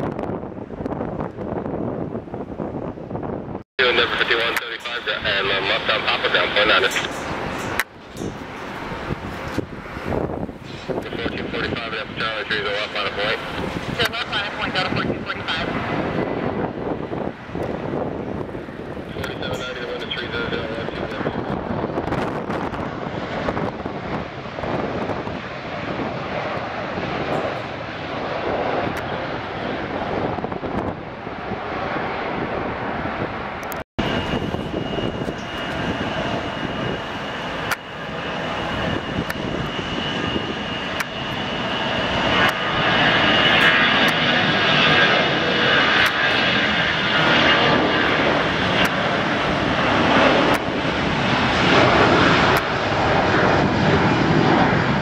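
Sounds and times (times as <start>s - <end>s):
airliner engines running: 0.0s - 55.0s
steady high whine: 3.4s - 55.0s.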